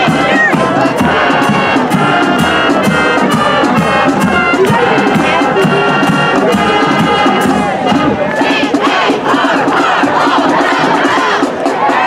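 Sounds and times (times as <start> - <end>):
marching drumbeat: 0.0 - 12.0
trumpets and trombones playing: 0.0 - 12.0.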